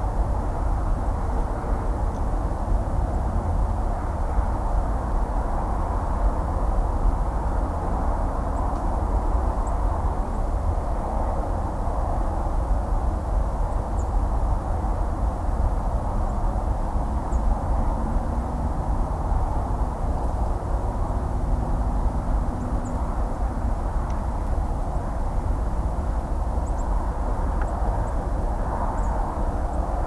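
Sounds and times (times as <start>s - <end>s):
distant highway traffic: 0.0s - 30.0s.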